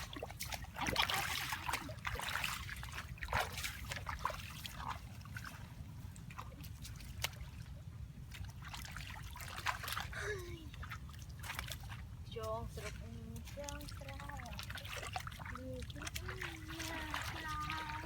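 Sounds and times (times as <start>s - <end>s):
shallow water splashing: 0.0s - 18.0s.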